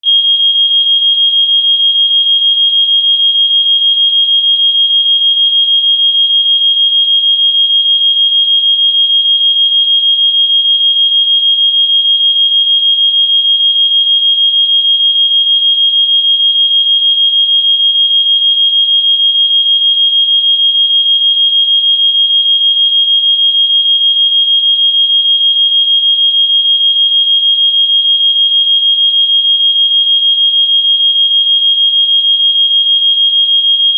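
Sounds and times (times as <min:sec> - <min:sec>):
fire alarm high-pitched tone: 0:00.0 - 0:33.9.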